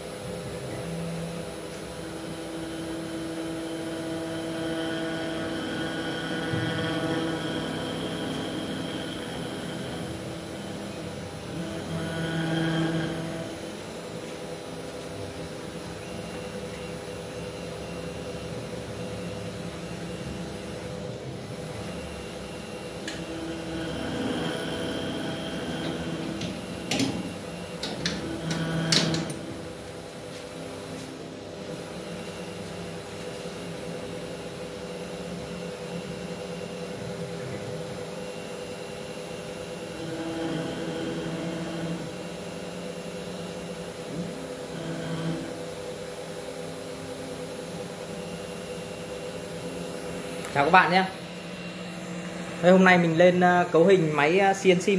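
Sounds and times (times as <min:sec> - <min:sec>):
whining motors over hum: 0:00.0 - 0:54.9.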